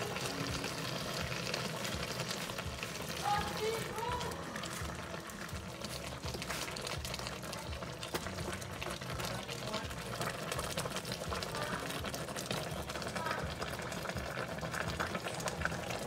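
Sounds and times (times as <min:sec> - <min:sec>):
stew bubbling and crackling: 0:00.0 - 0:16.0.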